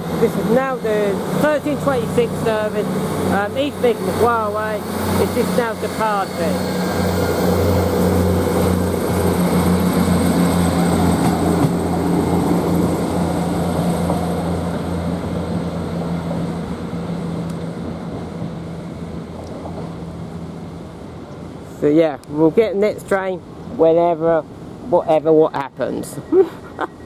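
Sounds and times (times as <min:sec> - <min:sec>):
diesel train engines pulling away: 0:00.0 - 0:21.8.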